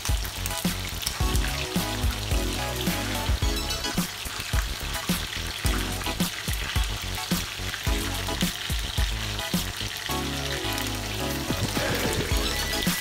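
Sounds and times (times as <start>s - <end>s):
background music with beat: 0.0s - 13.0s
chicken sizzling in oil: 0.0s - 13.0s.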